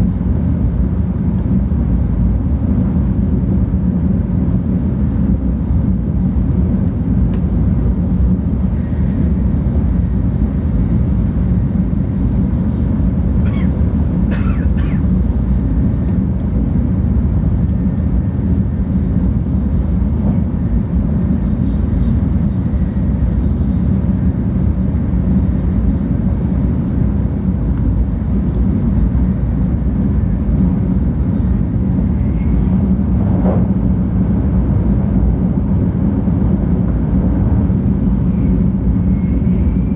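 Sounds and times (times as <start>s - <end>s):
train rumble inside cabin: 0.0s - 39.9s.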